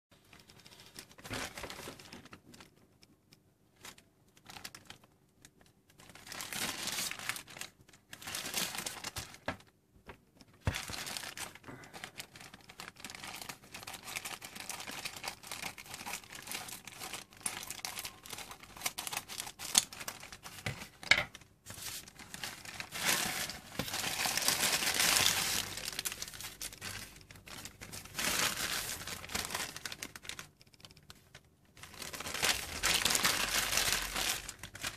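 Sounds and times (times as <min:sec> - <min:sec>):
plastic bag crinkling: 0:00.2 - 0:09.8, 0:10.4 - 0:34.9.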